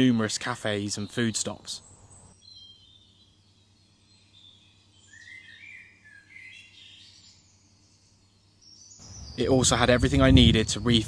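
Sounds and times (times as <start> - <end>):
faint birdsong chirping: 0.0 - 11.0.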